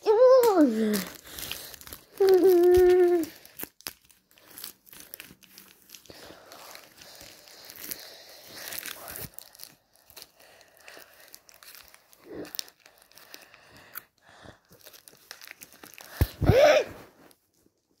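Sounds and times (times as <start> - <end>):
close rustling and crinkling: 0.1 - 18.0.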